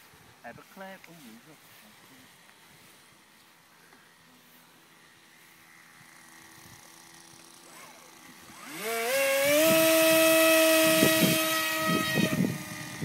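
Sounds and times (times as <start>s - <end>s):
electric motor propeller whine: 2.3s - 13.0s.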